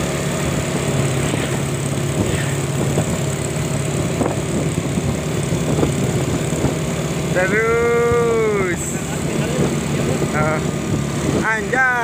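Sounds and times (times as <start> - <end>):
road and wind noise: 0.0 - 12.0
vehicle engines running: 0.0 - 12.0.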